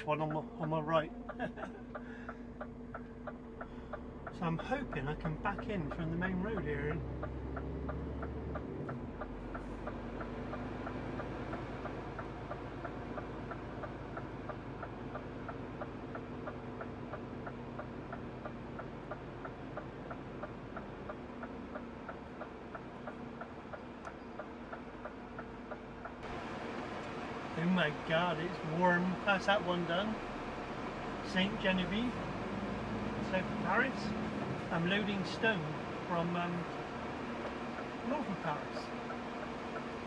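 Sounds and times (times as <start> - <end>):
diesel engine droning: 0.0 - 40.0
turn signal ticking: 0.0 - 40.0.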